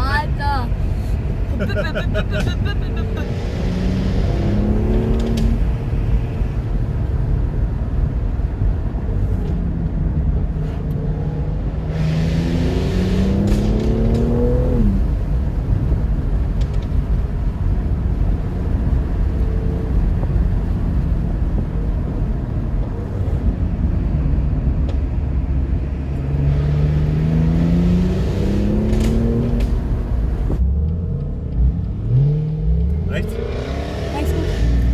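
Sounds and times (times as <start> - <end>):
car engine revving: 0.7 - 8.4, 9.2 - 23.5, 26.0 - 34.9.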